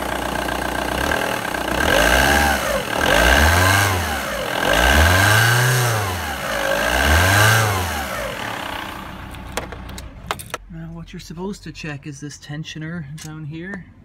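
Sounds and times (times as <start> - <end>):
diesel engine revving: 0.0 - 11.8.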